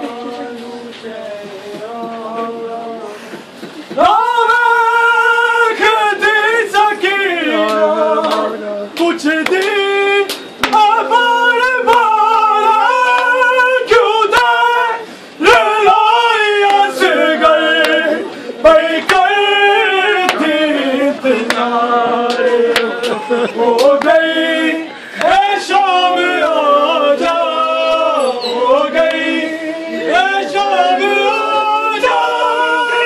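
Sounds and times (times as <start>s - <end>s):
voices singing a lament: 0.0s - 33.0s.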